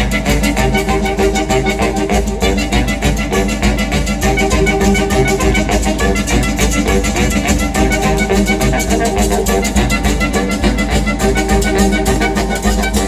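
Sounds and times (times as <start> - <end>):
fast drum beat: 0.0 - 13.0
saxophone melody: 0.0 - 13.0.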